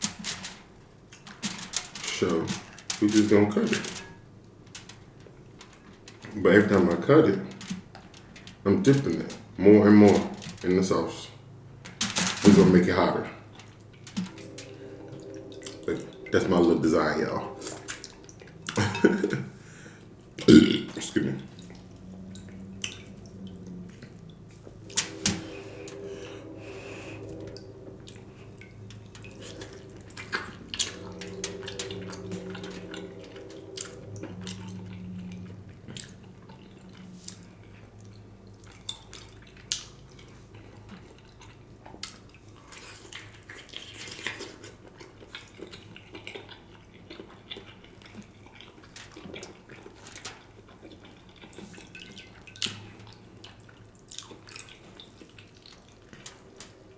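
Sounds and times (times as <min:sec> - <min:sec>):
wet chewing and mouth sounds: 0:00.0 - 0:56.9.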